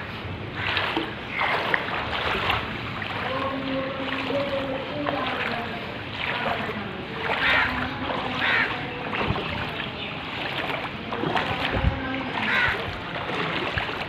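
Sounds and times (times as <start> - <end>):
rushing floodwater: 0.0 - 14.0.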